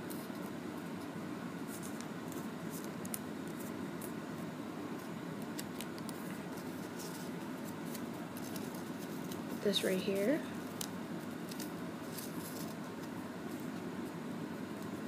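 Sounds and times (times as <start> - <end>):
paper crinkling and rustling: 0.0 - 4.2, 5.0 - 14.2
steady background hiss: 0.0 - 15.0.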